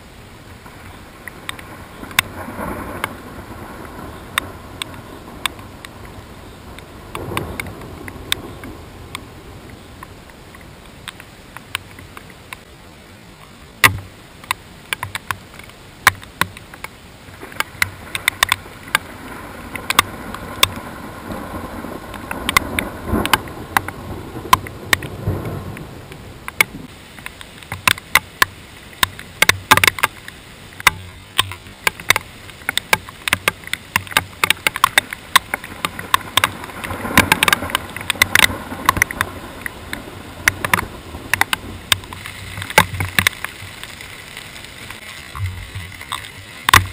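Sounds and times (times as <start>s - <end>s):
low rumbles: 0.0s - 13.0s, 15.4s - 46.9s
rain and wind hiss: 0.0s - 46.9s
raindrops ticking on camera housing: 0.0s - 46.9s.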